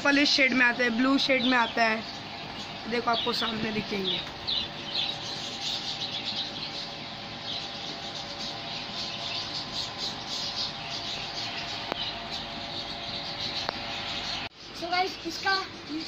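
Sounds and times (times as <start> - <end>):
caged birds chirping: 0.0 - 16.0
steady hum: 0.0 - 16.0.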